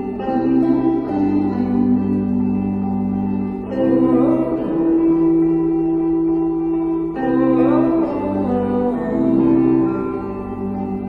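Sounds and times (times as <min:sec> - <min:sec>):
held music chords: 0:00.0 - 0:11.0
person singing: 0:00.0 - 0:11.0.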